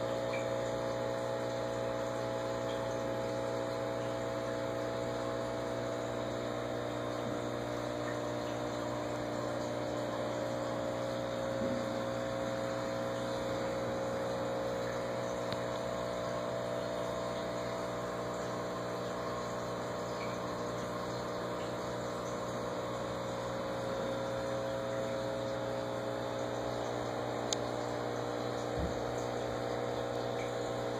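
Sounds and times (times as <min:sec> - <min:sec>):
aquarium filter pump humming: 0:00.0 - 0:30.9.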